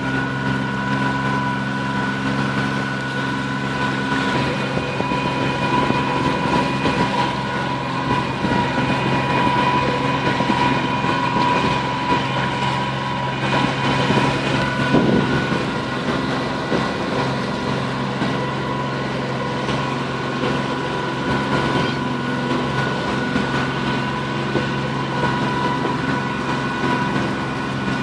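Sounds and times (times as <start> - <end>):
boat engine humming: 0.0 - 28.0
whining tones: 0.0 - 28.0.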